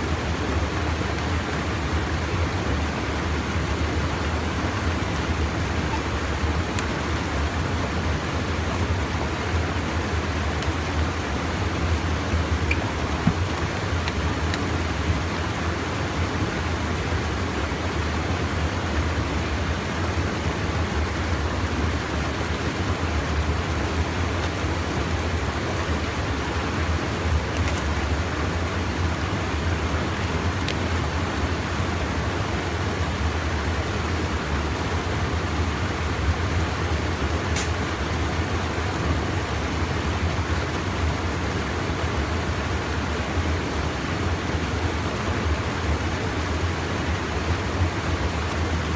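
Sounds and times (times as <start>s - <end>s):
stream rushing over a small dam: 0.0s - 48.9s.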